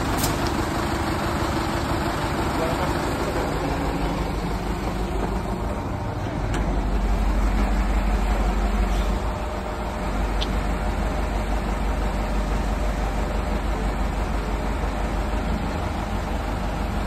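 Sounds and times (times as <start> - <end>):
crane engine humming: 0.0 - 17.0.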